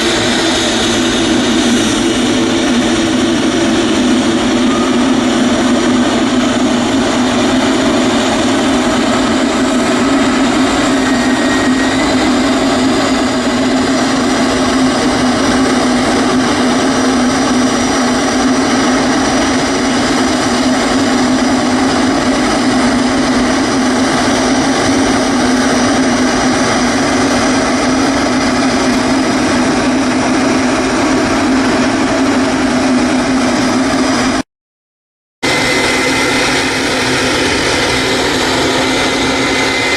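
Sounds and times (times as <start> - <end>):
jet engines running: 0.0 - 34.4, 35.4 - 39.9.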